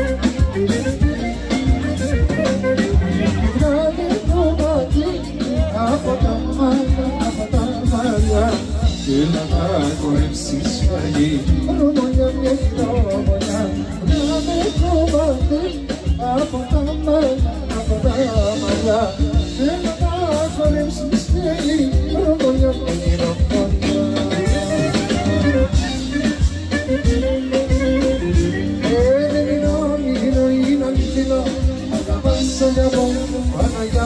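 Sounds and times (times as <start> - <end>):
band playing folk dance tune: 0.0 - 34.0
heavy drum beat: 0.0 - 34.0.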